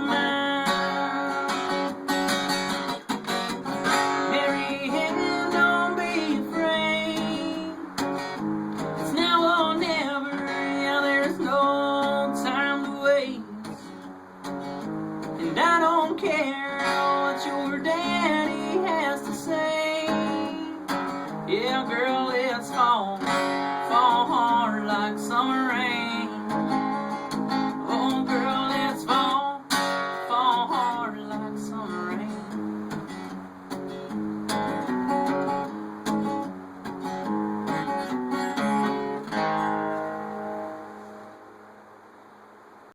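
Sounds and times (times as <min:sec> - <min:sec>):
acoustic guitar strumming: 0:00.0 - 0:42.9
guitar lead line bending: 0:00.0 - 0:42.9.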